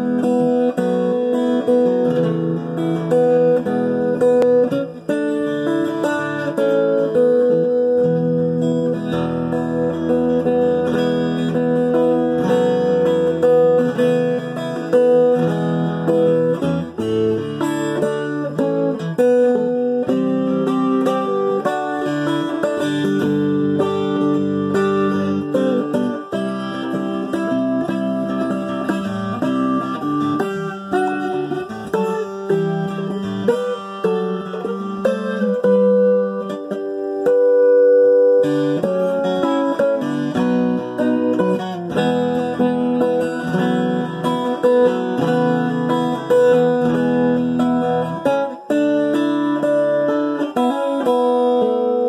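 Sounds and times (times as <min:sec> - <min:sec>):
twelve-string guitar playing: 0:00.0 - 0:52.0.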